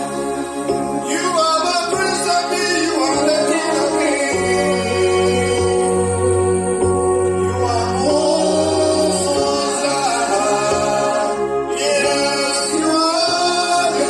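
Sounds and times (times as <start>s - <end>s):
low steady accompaniment: 0.0s - 14.0s
voices singing held notes: 0.0s - 14.0s.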